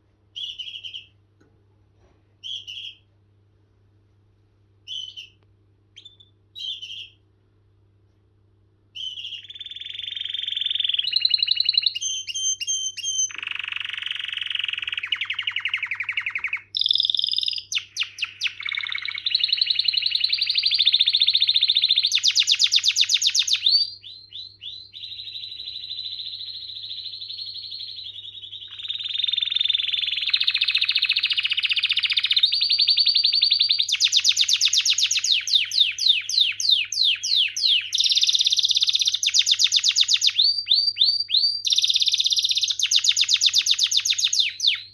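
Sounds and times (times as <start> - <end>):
canary singing trills: 0.4 - 1.2, 2.4 - 3.1, 4.8 - 5.4, 6.0 - 7.2, 9.0 - 44.9.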